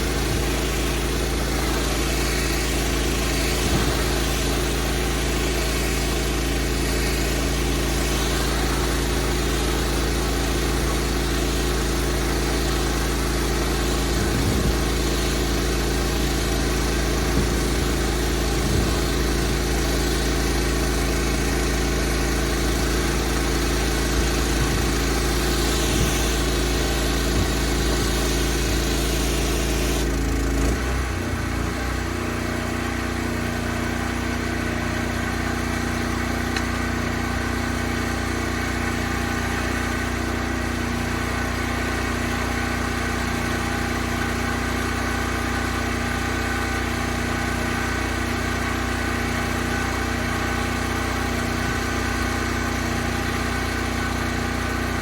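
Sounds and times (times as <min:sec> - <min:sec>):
high-pressure water spray hiss: 0:00.0 - 0:55.0
pressure washer engine running: 0:00.0 - 0:55.0.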